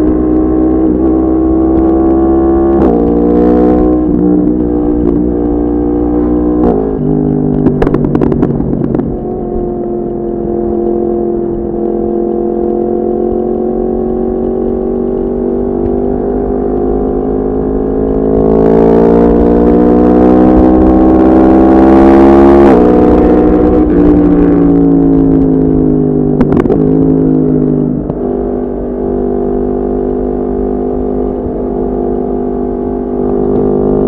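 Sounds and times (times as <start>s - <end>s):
motorcycle engine: 0.0s - 34.0s.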